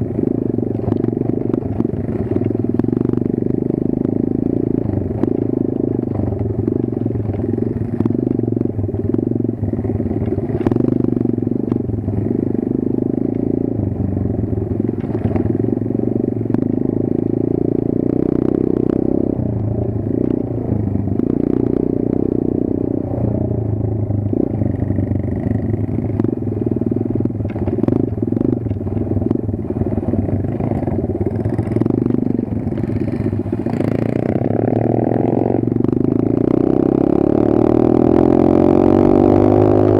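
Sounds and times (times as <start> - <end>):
small motorbike engine running: 0.0 - 36.3.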